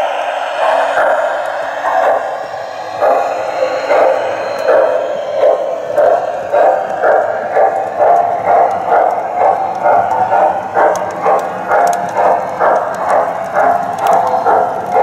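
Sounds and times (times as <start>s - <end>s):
model train running: 0.0s - 15.0s.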